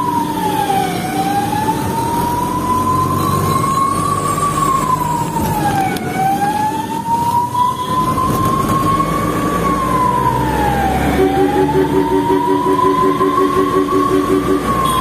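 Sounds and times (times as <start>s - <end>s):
ambulance siren wailing: 0.0s - 15.0s
vehicle engine and road noise: 0.0s - 15.0s.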